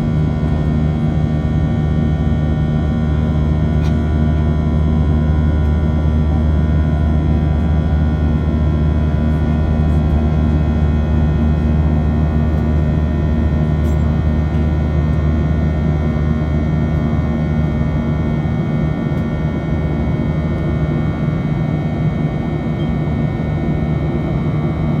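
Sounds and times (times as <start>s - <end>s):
jet engine cabin drone: 0.0s - 25.0s.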